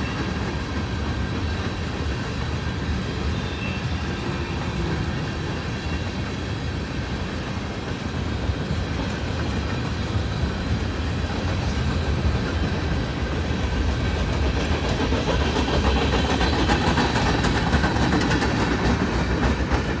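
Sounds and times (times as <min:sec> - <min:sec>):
freight train cars rolling past: 0:00.0 - 0:20.0.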